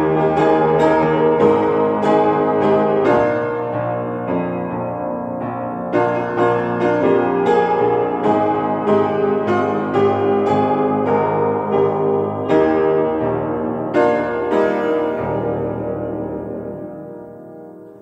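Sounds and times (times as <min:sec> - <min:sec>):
electronic keyboard piano melody: 0:00.0 - 0:18.0.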